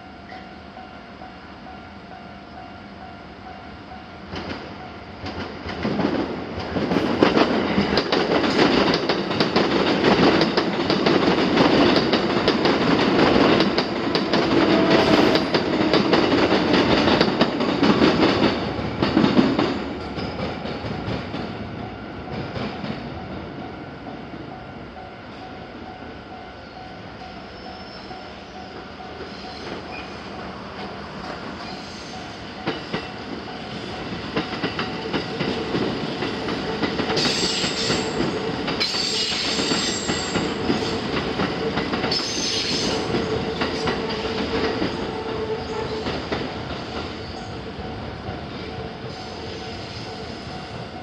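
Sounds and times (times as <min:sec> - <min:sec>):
electric train passing: 0:00.0 - 0:51.0.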